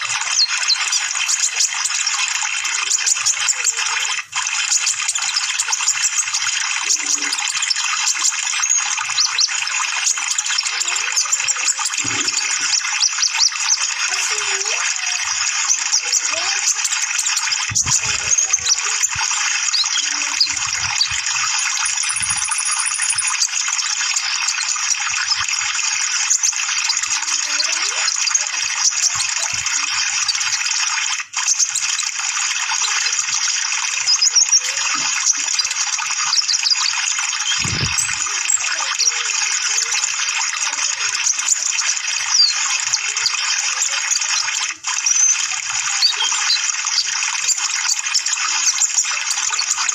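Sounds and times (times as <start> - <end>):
high bird chirps: 0.0 - 49.9
rushing water: 0.0 - 49.9.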